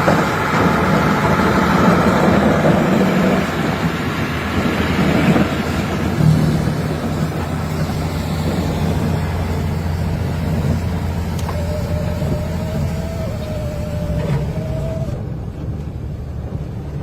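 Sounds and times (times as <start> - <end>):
faint steady whine: 0.0 - 17.0
low engine rumble: 0.0 - 17.0.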